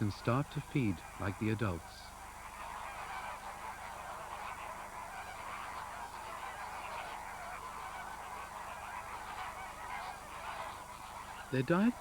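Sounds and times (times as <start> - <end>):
flock of flamingos honking: 0.0 - 12.0.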